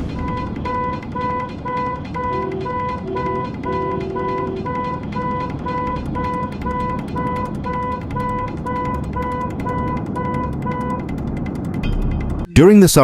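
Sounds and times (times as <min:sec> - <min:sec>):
low rumble: 0:00.0 - 0:12.6
electronic warning beeps: 0:00.1 - 0:11.0.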